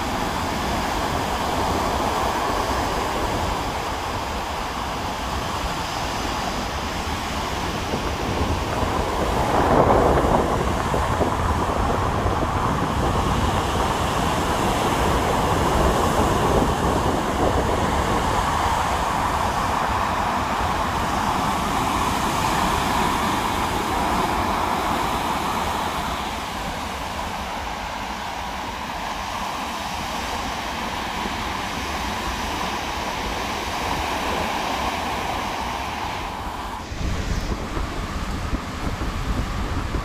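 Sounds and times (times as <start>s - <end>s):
storm waves surging onto beach: 0.0s - 40.0s
strong wind: 0.0s - 40.0s.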